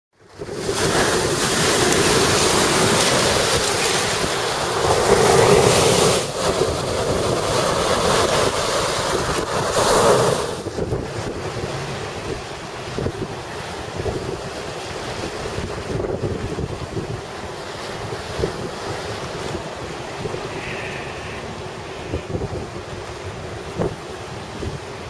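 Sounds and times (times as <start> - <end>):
waves breaking on pebble beach: 0.3 - 25.0
wind buffeting microphone: 0.3 - 25.0.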